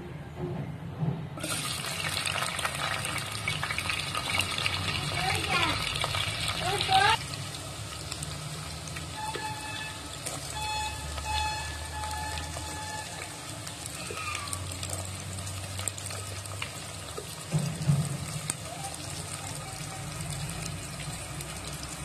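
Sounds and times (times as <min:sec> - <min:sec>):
onions sizzling in hot oil: 0:01.4 - 0:22.0.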